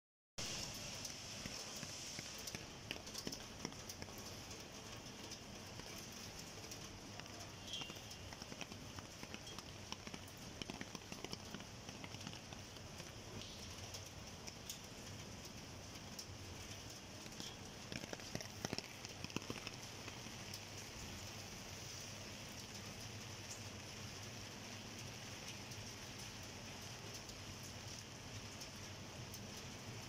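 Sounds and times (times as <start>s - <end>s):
rain hiss: 0.4s - 30.0s
raindrops ticking on steel: 0.4s - 30.0s.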